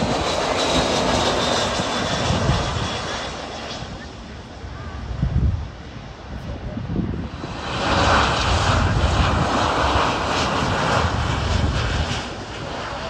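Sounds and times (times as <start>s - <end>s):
jet airliner engine noise: 0.0s - 13.0s.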